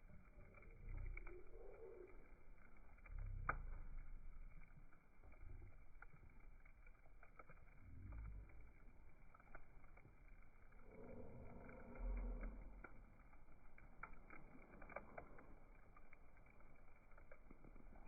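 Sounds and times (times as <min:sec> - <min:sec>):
campfire crackling: 0:00.0 - 0:18.0
soft low rumbles: 0:00.0 - 0:18.0.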